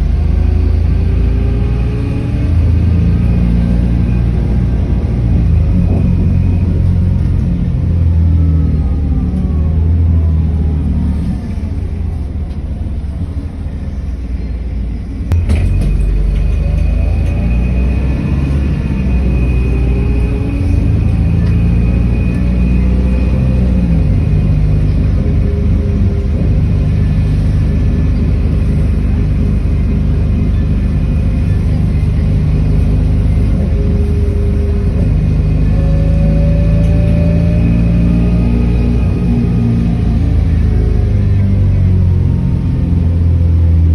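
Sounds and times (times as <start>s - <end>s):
bus engine rumbling: 0.0s - 43.9s.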